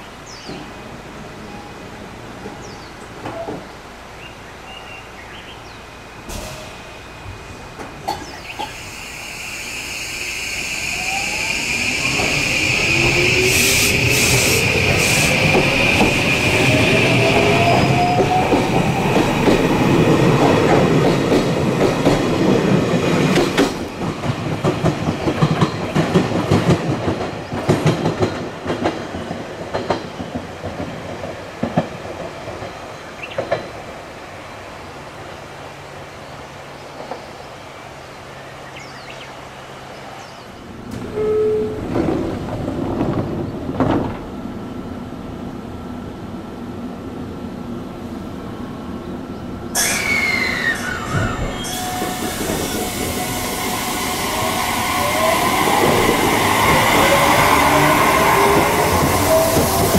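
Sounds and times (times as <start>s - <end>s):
train running noise: 0.0s - 38.7s, 39.4s - 59.9s.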